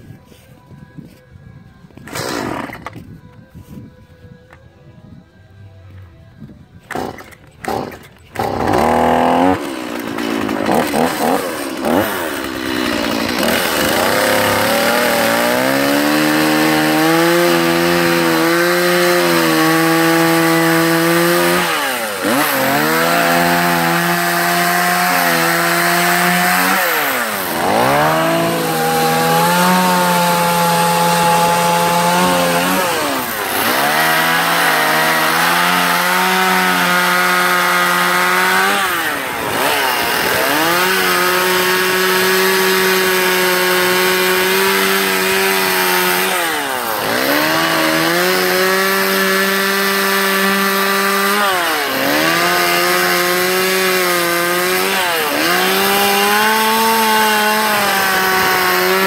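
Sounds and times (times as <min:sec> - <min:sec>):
chainsaw revving: 0:02.0 - 0:03.0, 0:06.9 - 0:59.0.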